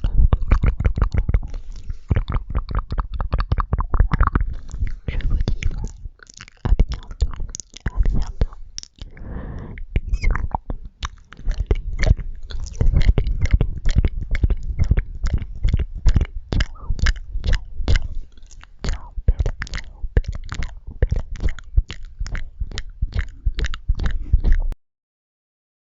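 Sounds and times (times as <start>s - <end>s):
chewing marshmallows: 0.0s - 9.2s, 9.8s - 24.8s.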